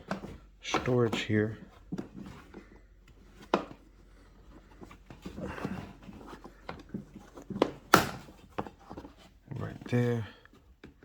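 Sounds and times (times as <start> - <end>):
soft rustling: 0.0 - 11.0.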